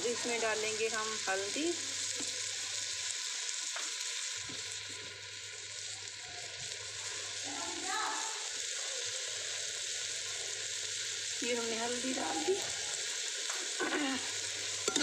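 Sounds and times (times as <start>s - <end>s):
vegetables sizzling in pot: 0.0s - 15.0s.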